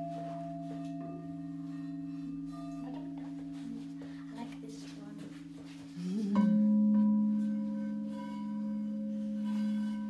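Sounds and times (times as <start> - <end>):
rubbed bowl pure hum: 0.0 - 10.0
singing bowls ringing: 0.0 - 10.0.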